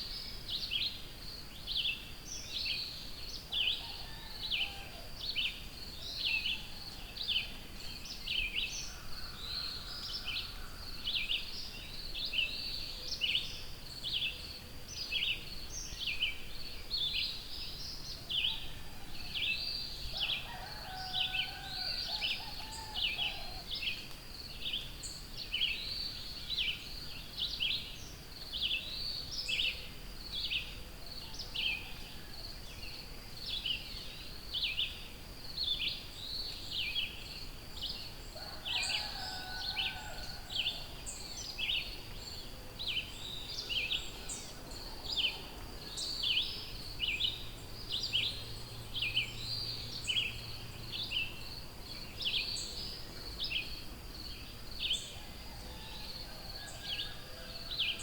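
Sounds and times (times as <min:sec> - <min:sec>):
birdsong chorus: 0:00.0 - 0:58.0.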